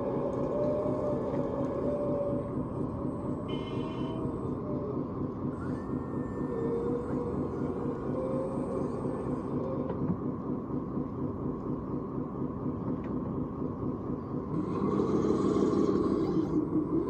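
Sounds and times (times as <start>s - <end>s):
model machinery engine drone: 0.0s - 17.0s.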